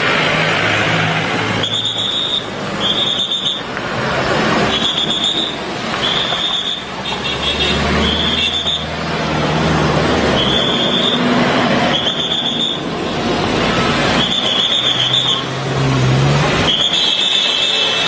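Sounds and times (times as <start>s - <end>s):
cars driving past: 0.0s - 18.0s
road noise: 0.0s - 18.0s.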